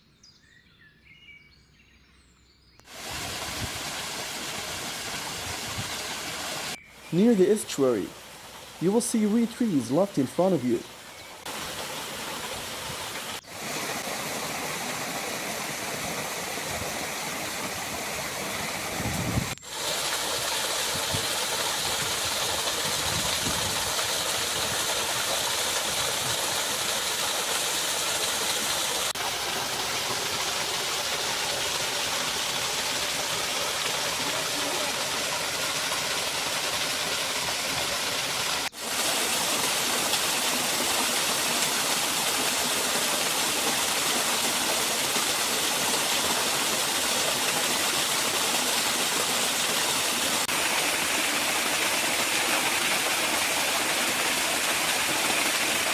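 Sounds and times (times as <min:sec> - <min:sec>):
stream and waterfall rushing: 0:02.9 - 0:55.9.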